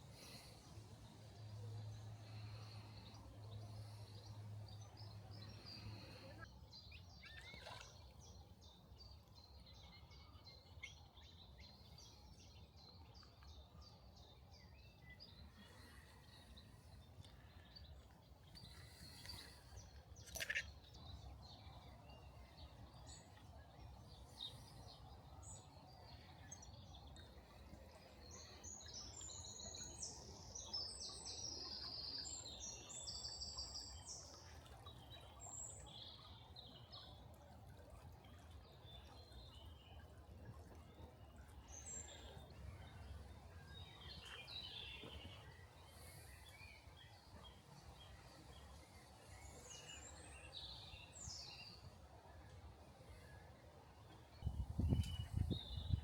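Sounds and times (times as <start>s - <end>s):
wild birdsong and chirps: 0.0s - 56.0s.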